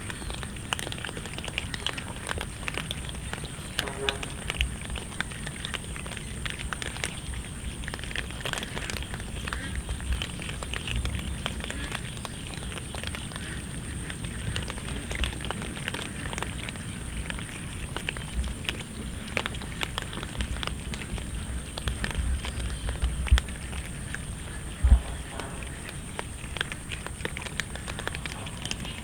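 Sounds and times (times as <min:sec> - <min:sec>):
cats chewing food: 0:00.0 - 0:29.0.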